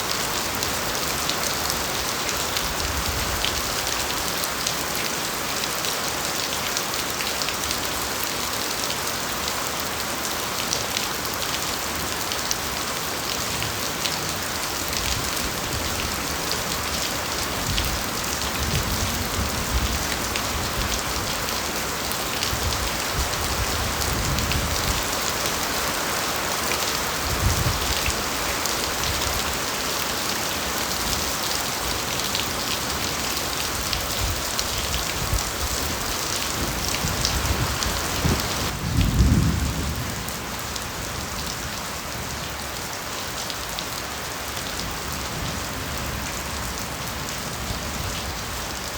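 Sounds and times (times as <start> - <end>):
rain falling on foliage: 0.0 - 48.9.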